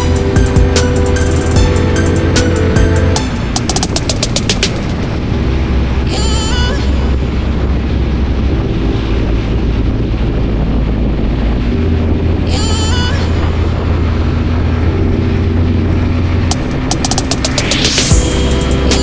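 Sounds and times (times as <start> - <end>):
motorcycle riding at speed: 0.0 - 19.0
music with deep bass line: 0.0 - 19.0
wind rushing over microphone: 0.0 - 19.0.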